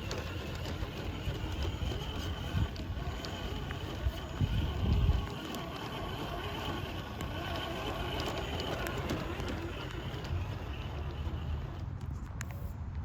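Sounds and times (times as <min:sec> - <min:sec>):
electric motor and gearbox whining: 0:00.0 - 0:12.4
small clicks from tyres and stones: 0:00.0 - 0:13.0.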